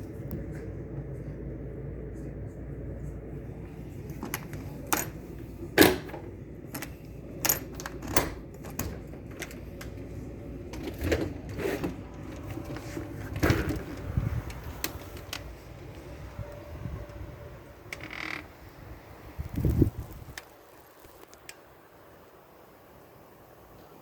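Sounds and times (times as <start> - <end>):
low steady rumble: 0.0 - 20.4.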